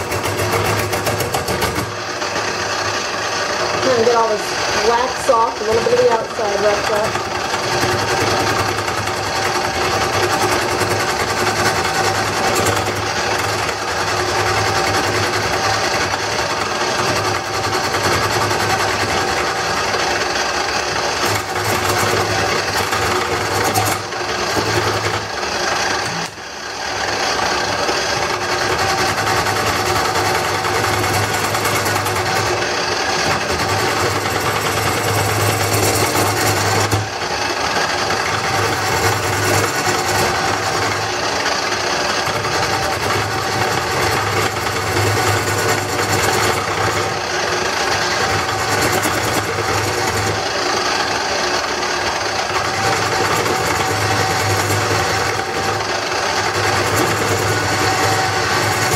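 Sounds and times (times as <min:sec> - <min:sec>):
lathe motor hum: 0:00.0 - 0:58.9
turning tool scraping wood: 0:00.0 - 0:58.9.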